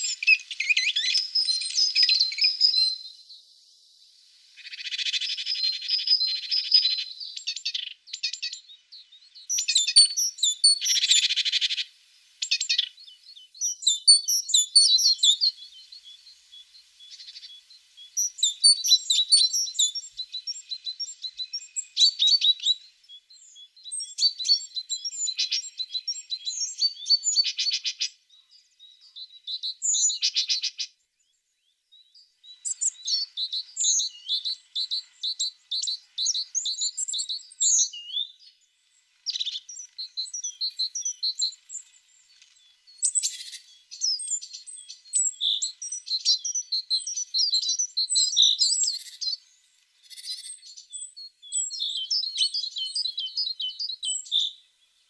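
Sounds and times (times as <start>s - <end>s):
bird chirps and trills: 4.6s - 30.9s, 32.2s - 55.0s.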